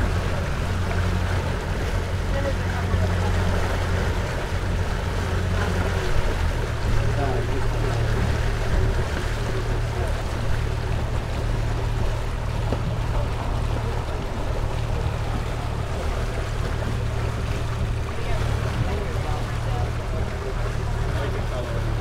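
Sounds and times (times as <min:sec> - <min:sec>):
boat motor humming: 0:00.0 - 0:22.0
water rushing along hull: 0:00.0 - 0:22.0.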